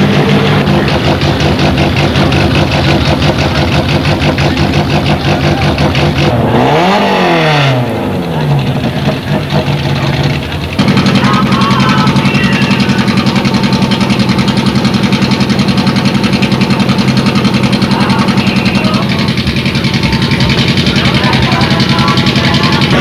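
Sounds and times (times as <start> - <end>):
car engine idling: 0.0 - 23.0
car engine revving: 0.0 - 23.0.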